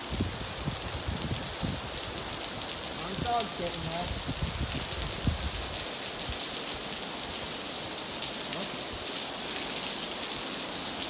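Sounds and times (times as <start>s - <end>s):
heavy rain on stone: 0.0s - 11.0s.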